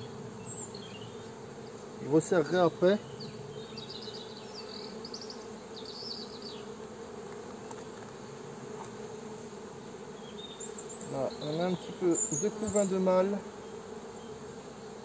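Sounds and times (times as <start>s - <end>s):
honeybee colony humming: 0.0s - 15.0s.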